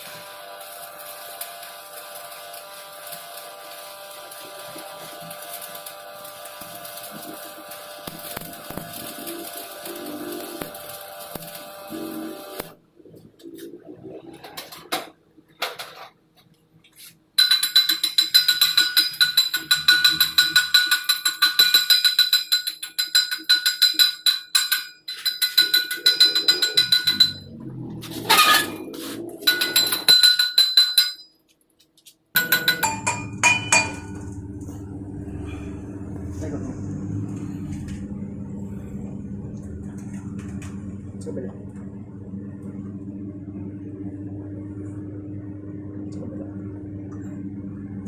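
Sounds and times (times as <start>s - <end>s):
welding arc crackling and sputtering: 0.0s - 15.1s, 16.0s - 30.4s, 31.8s - 43.2s.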